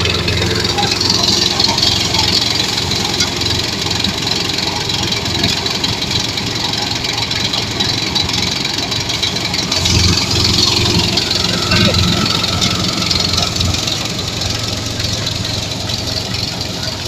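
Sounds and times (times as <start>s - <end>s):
threshing machine mechanical din: 0.0s - 17.0s.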